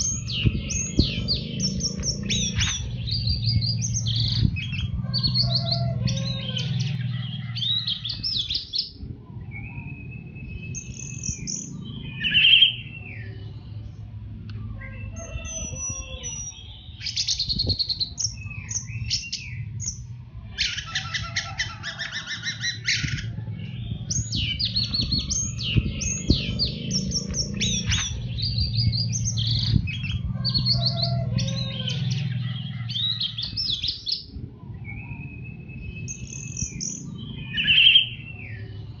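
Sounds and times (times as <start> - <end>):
low hum: 0.0 - 39.0
thrush singing: 0.0 - 39.0.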